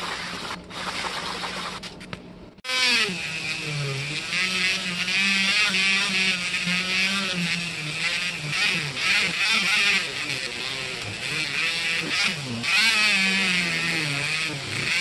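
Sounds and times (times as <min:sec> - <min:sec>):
rotary tool grinding metal: 0:02.6 - 0:15.0.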